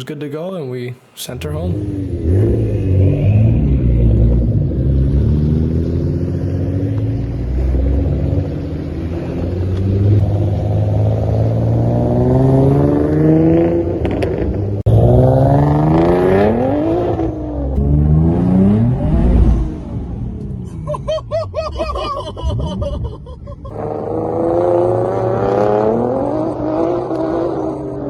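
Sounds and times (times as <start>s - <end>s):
car engine accelerating: 1.2s - 28.0s.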